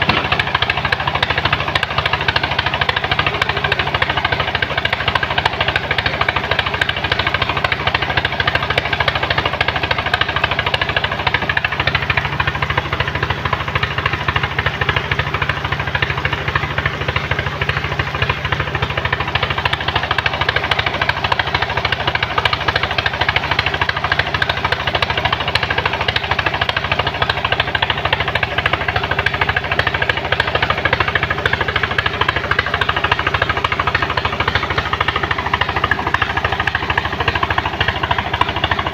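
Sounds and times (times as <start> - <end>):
truck engine knocking clatter: 0.0 - 38.9.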